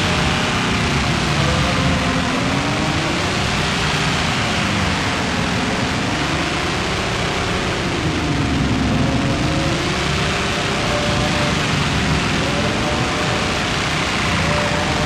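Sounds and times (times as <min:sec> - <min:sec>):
harsh noise wall of hiss: 0:00.0 - 0:15.0.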